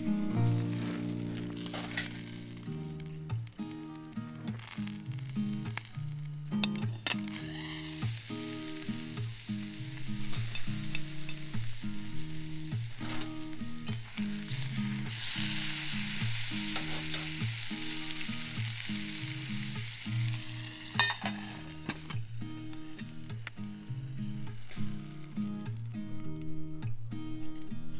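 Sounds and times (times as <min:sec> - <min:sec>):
food sizzling in a skillet: 0:00.0 - 0:26.8.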